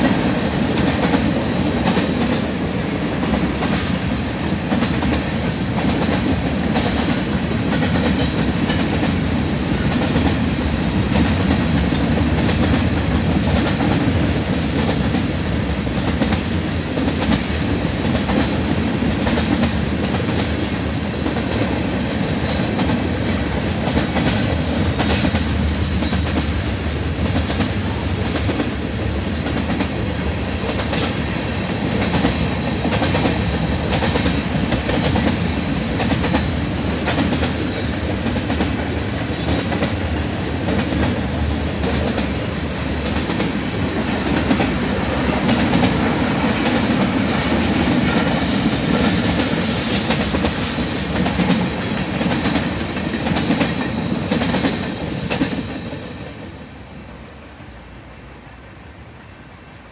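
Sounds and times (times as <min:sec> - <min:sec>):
freight train rumbling over rails: 0:00.0 - 0:59.9.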